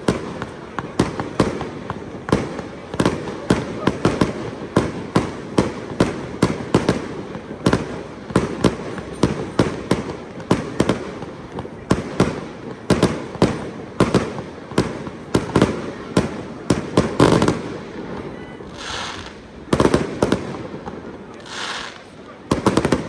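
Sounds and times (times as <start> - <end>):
fireworks bursting with sharp bangs: 0.0 - 23.0.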